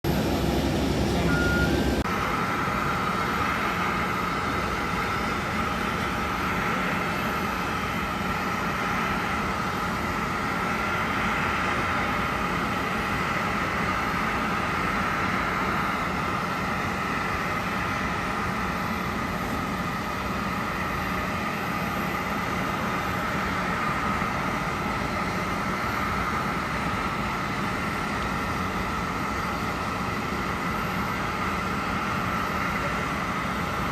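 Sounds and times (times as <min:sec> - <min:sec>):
jet engine whine and rumble: 0:00.0 - 0:33.9.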